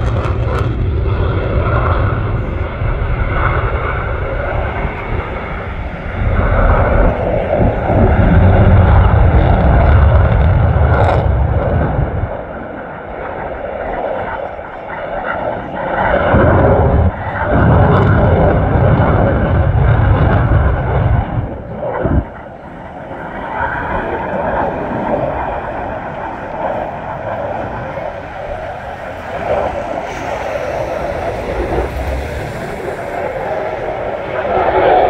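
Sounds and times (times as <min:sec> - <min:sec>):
airplane engines roaring: 0:00.0 - 0:35.0.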